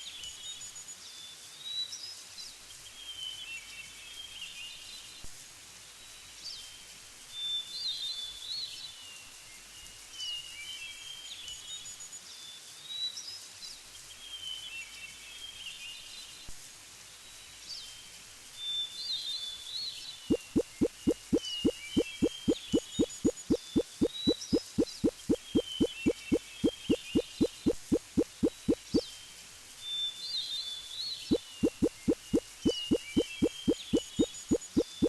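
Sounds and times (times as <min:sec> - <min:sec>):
steady background hiss: 0:02.2 - 0:26.8, 0:28.8 - 0:35.0.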